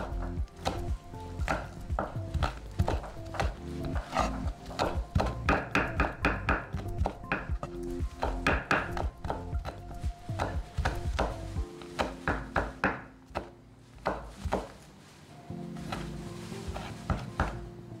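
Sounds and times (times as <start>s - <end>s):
knife chopping on wooden board: 0.0s - 14.8s, 16.7s - 17.6s
background music: 0.0s - 18.0s.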